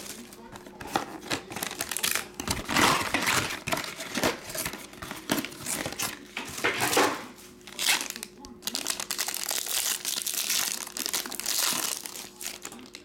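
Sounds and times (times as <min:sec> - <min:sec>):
foil pack crinkling: 0:00.0 - 0:07.0, 0:07.6 - 0:13.0.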